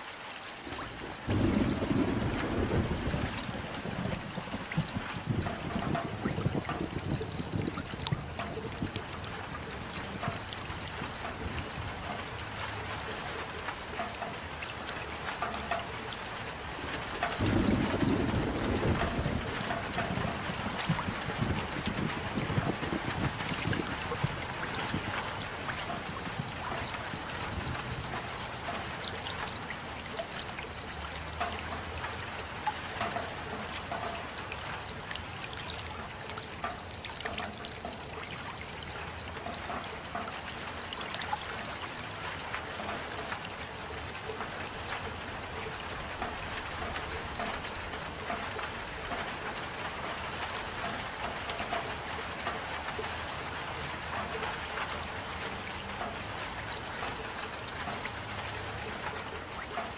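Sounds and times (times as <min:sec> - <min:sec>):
steady rainfall: 0:00.0 - 0:59.9
water trickling and dripping: 0:00.0 - 0:59.9.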